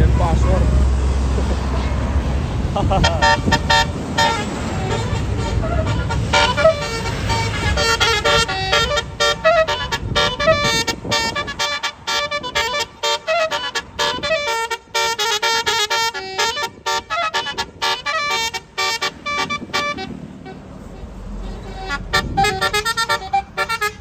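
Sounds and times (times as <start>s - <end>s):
bus horn playing a tune: 0.0s - 24.0s
low engine rumble: 0.0s - 24.0s.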